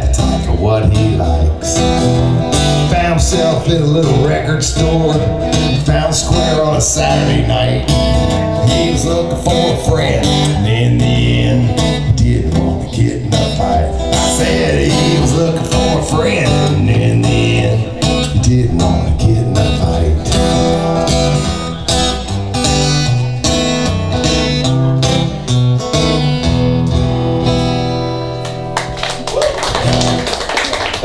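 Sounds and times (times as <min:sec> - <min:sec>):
folk band music: 0:00.0 - 0:12.7, 0:13.4 - 0:28.8
strummed acoustic guitar: 0:00.0 - 0:29.0.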